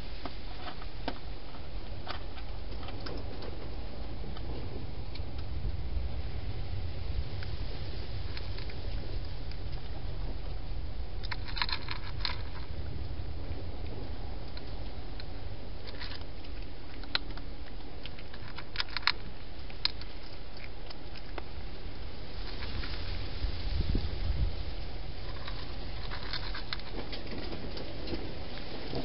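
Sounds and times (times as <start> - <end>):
hedgehog crunching food: 0.0 - 29.0
low rumble: 0.0 - 29.0.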